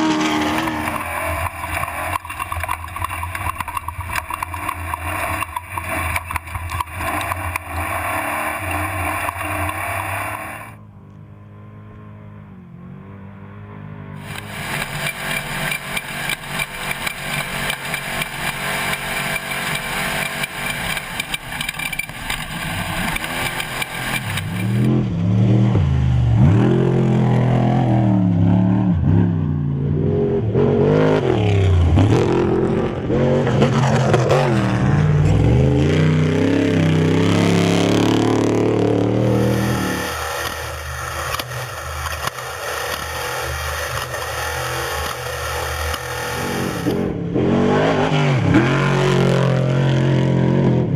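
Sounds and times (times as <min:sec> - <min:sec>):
off-road vehicle engines revving: 0:00.0 - 0:50.9.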